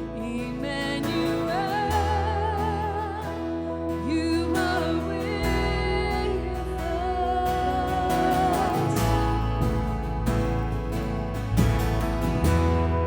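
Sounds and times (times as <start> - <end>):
person singing with vibrato: 0.0 - 10.5
bass and guitar: 0.0 - 13.0.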